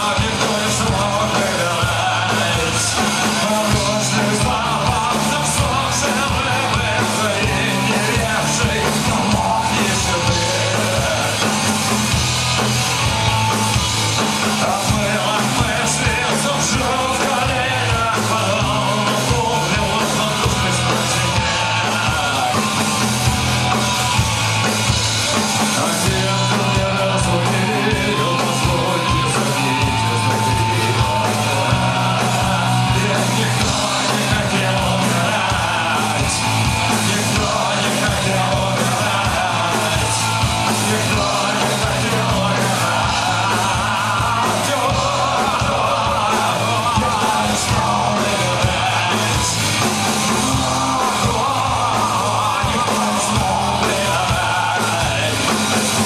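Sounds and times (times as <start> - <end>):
bass: 0.0 - 56.0
drumbeat: 0.0 - 56.0
electric guitars: 0.0 - 56.0.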